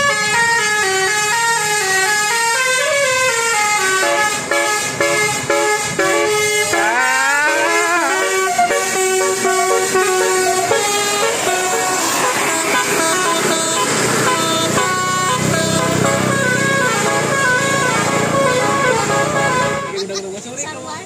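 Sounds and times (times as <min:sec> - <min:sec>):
multi-tone air horns playing tune: 0:00.0 - 0:20.0.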